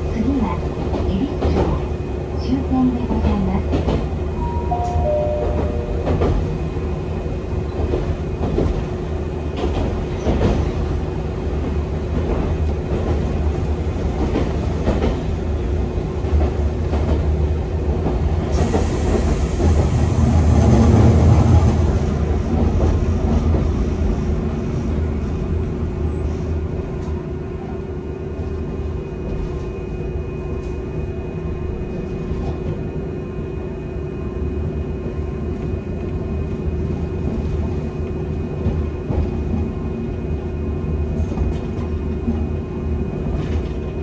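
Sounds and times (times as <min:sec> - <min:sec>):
streetcar rumble and hum: 0:00.0 - 0:44.0.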